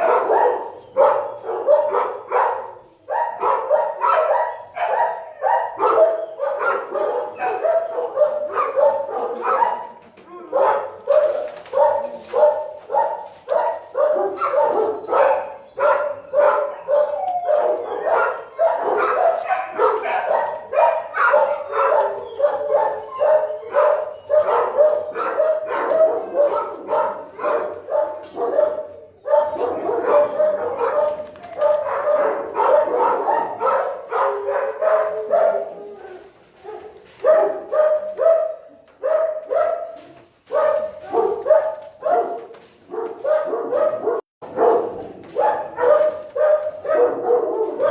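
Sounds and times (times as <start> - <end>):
big dogs barking: 0.0 - 47.9.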